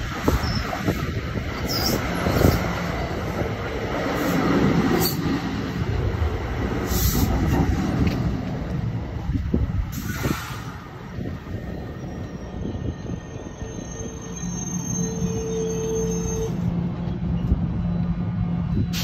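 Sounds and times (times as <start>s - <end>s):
train coaches rolling past: 0.0s - 19.0s.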